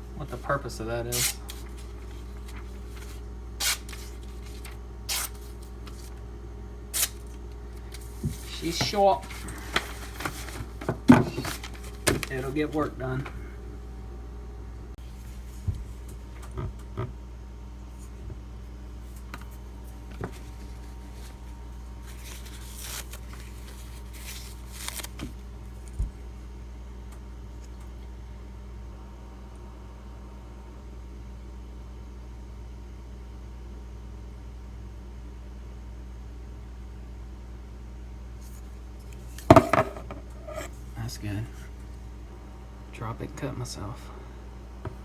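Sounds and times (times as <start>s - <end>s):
low electrical hum: 0.0s - 45.0s.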